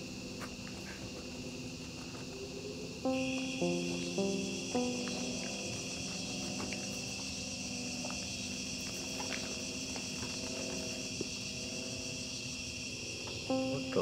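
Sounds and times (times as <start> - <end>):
crickets chirring: 0.0 - 14.0
low music drone: 0.0 - 14.0.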